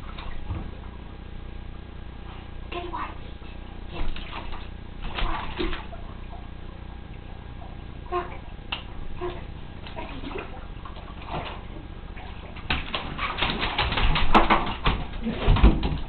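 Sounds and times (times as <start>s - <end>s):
water splashing in bathtub: 0.0s - 1.0s, 3.8s - 16.0s.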